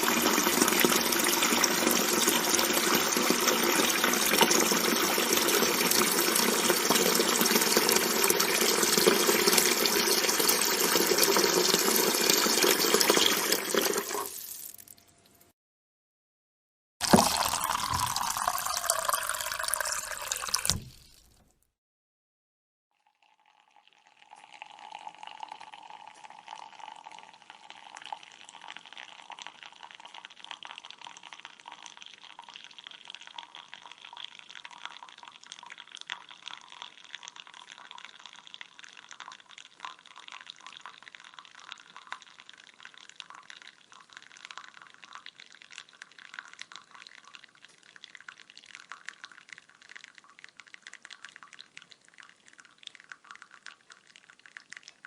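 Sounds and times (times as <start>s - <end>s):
liquid pouring and splashing: 0.0s - 15.5s, 17.0s - 21.5s, 23.2s - 55.0s.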